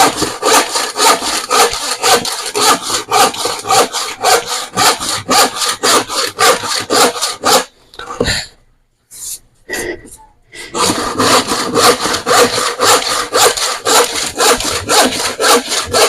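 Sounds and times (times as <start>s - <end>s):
hand saw cutting plywood: 0.0s - 7.7s, 10.7s - 16.0s.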